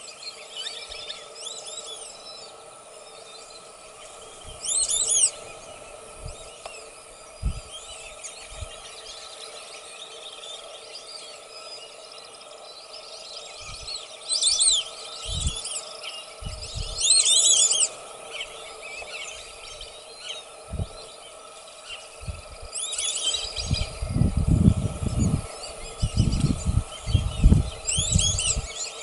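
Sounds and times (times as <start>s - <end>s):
ducks whistling calls: 0.0s - 24.0s, 25.1s - 29.0s
outdoor background noise: 0.0s - 29.0s.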